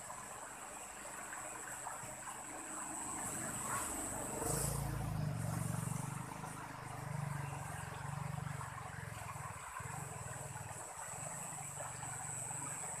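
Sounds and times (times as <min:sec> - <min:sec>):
stream rushing: 0:00.0 - 0:13.0
low motor hum: 0:02.0 - 0:13.0.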